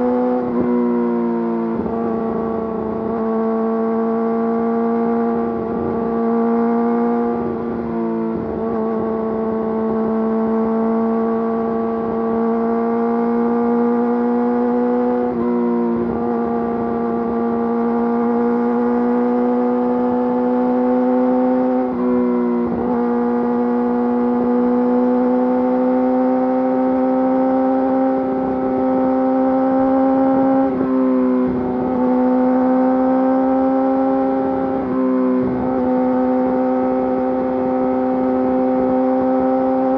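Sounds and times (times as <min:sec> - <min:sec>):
motorcycle engine revving high: 0:00.0 - 0:39.9.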